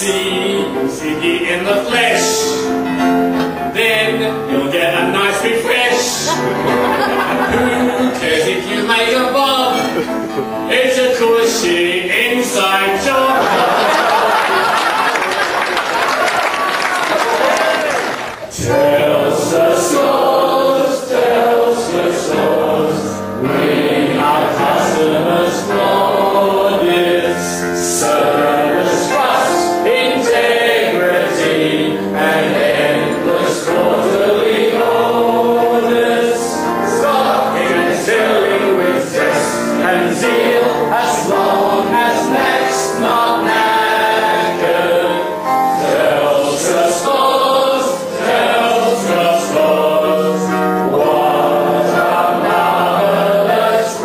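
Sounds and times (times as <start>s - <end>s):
crowd singing in chorus: 0.0s - 15.4s, 18.5s - 54.0s.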